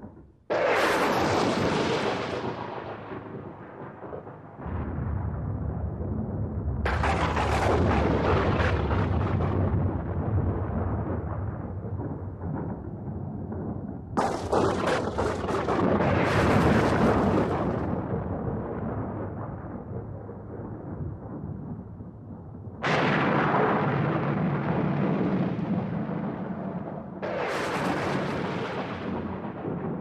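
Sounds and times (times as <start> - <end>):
thunder crack and rumble: 0.0 - 30.0.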